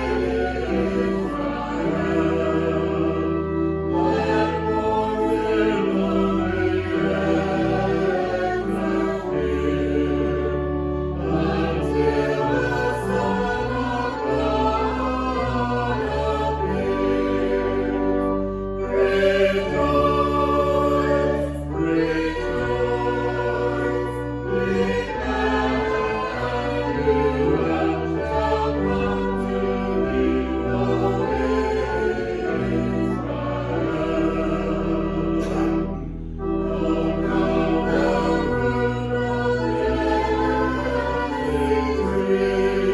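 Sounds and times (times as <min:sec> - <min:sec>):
choir singing in parts: 0:00.0 - 0:42.9.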